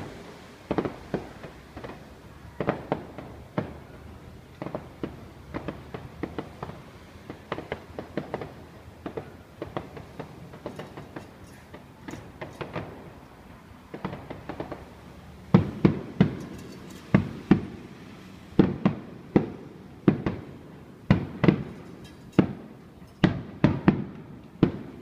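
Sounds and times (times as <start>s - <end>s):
fireworks bursting with echo: 0.0s - 25.0s.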